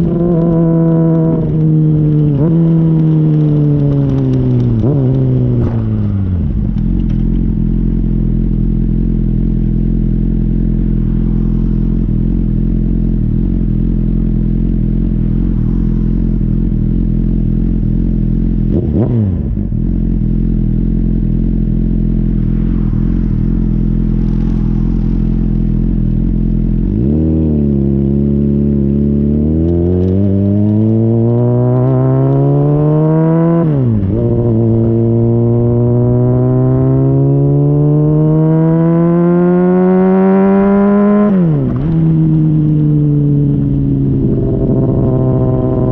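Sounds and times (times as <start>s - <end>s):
motorcycle exhaust revving: 0.0s - 45.9s.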